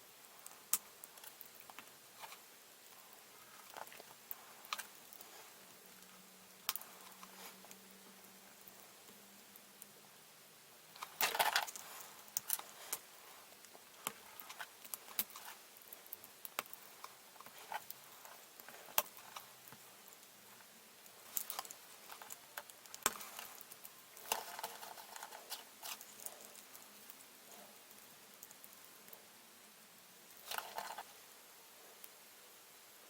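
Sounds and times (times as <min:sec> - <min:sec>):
rustling: 0:00.3 - 0:07.9, 0:10.9 - 0:29.2, 0:30.3 - 0:31.2.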